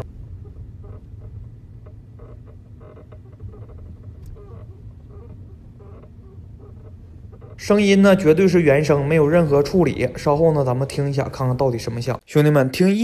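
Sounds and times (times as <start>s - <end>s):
low road rumble: 0.0s - 11.6s
suspension creaking squeaks: 0.0s - 12.2s.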